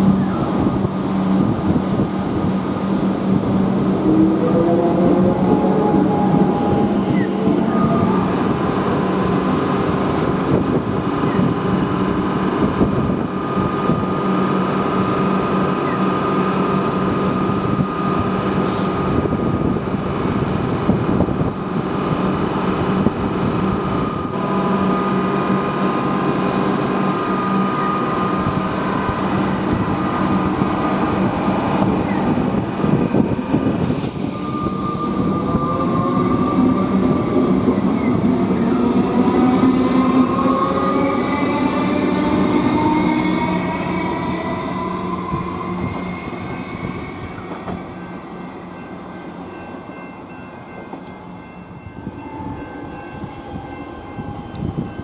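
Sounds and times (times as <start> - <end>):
train accelerating away: 0.0 - 49.9
electric train hum and whine: 0.0 - 55.0.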